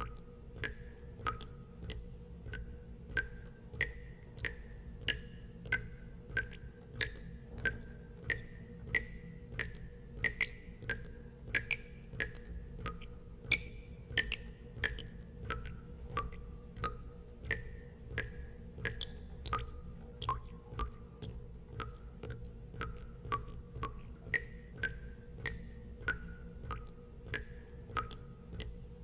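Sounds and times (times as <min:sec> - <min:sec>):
water drops plinking into water: 0:00.0 - 0:29.0.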